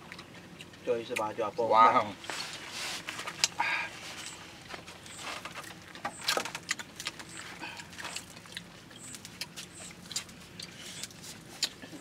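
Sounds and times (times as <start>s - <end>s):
people chewing: 0.0s - 1.4s, 2.1s - 12.0s.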